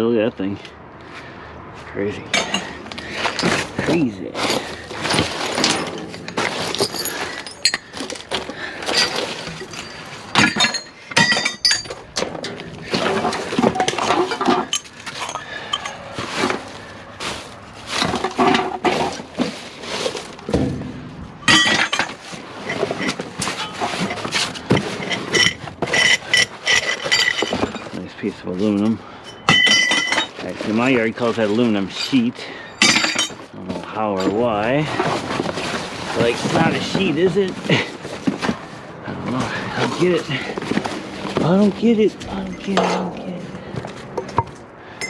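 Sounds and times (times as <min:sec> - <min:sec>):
scrap metal clanking: 0:02.2 - 0:45.0.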